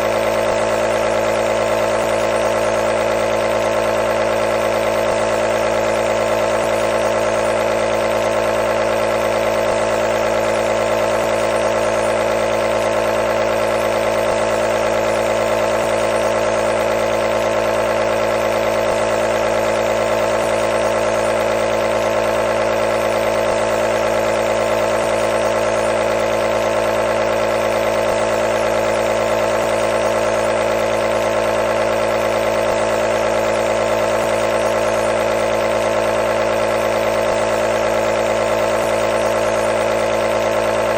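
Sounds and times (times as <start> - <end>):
nebulizer compressor humming: 0.0 - 40.9.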